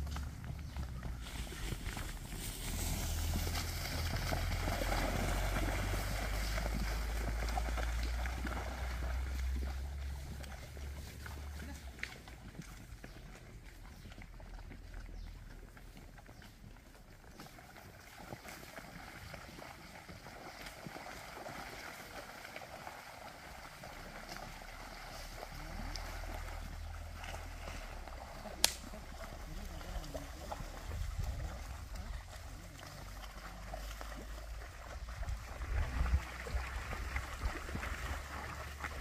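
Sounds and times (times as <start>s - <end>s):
animals splashing through mud: 0.0s - 39.0s.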